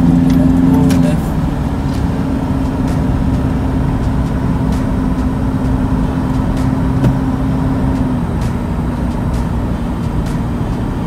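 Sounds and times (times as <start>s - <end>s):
car road noise from inside: 0.0s - 11.0s.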